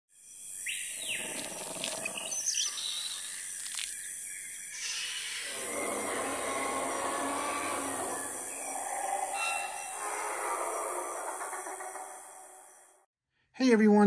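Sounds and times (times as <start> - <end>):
birds calling and chirping: 0.2 - 13.0.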